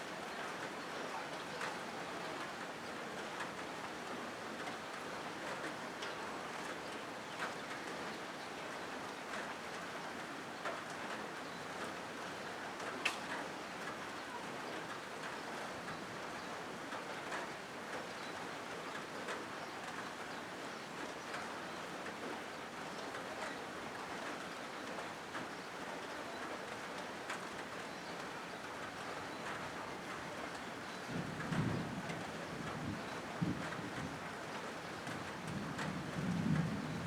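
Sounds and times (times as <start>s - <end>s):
rain on a metal roof: 0.0s - 37.0s.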